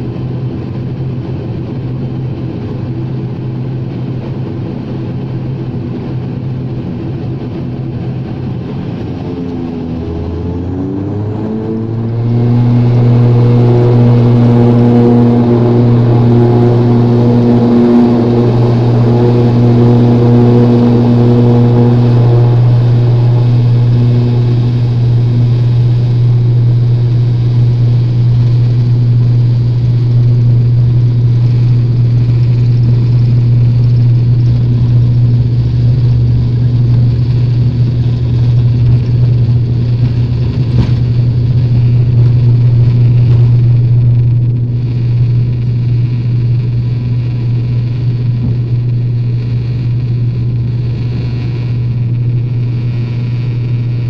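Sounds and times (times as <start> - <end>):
propeller drone: 0.0 - 54.0.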